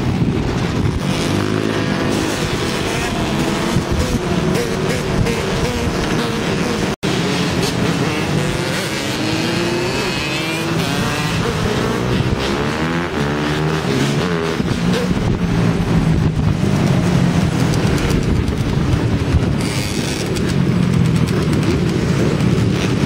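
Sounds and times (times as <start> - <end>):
quad bikes and dirt bikes revving: 0.0 - 23.0.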